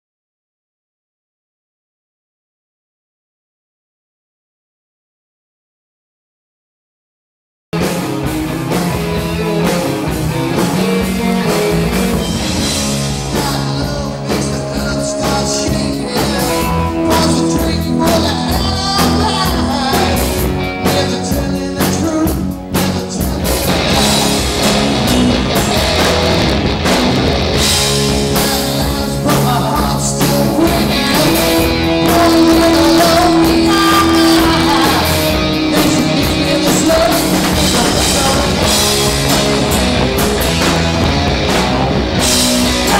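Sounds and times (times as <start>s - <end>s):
bass guitar: 7.7s - 42.9s
drum kit: 7.8s - 42.9s
electric guitars: 7.8s - 42.9s.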